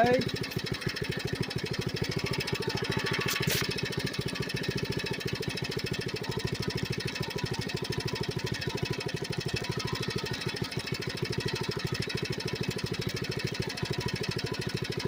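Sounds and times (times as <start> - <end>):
mini bike engine running: 0.0 - 15.0.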